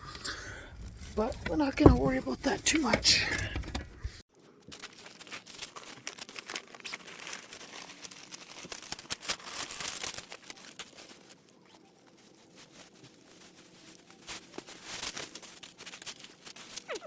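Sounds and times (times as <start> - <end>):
plastic rustling and crinkling: 0.0 - 17.0.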